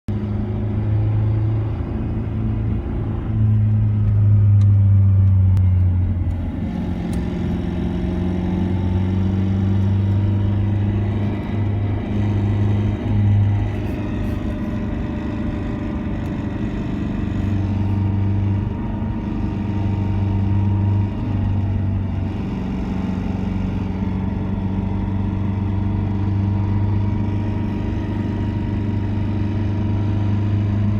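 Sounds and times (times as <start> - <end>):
car engine running: 0.1 - 30.9
engine knocking and rattling: 0.1 - 30.9.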